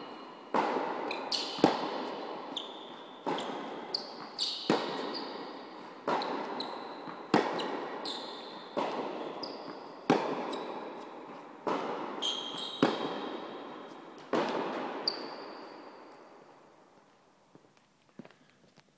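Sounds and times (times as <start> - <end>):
shoes squeaking on court: 0.0 - 18.8
tennis racket hits: 0.4 - 16.5
ball bouncing: 0.5 - 16.2.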